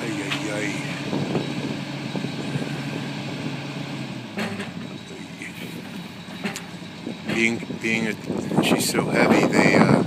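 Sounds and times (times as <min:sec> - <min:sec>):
crane engine running under load: 0:00.0 - 0:10.0.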